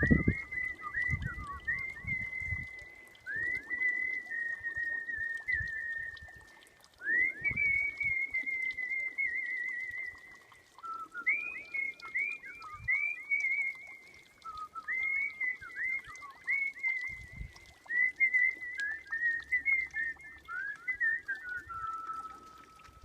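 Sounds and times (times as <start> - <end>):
person whistling a melody: 0.0 - 6.4, 7.0 - 23.0.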